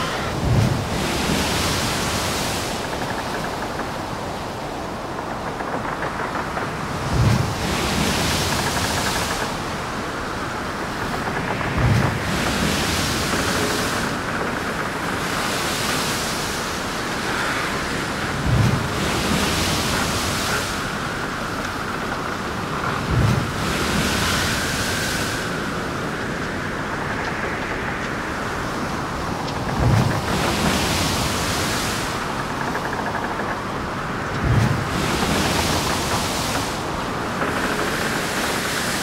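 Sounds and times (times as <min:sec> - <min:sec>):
steady rushing noise: 0:00.0 - 0:39.0.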